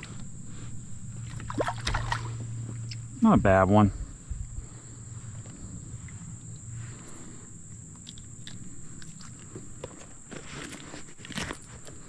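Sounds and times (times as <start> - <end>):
high-pitched insect drone: 0.0 - 10.4.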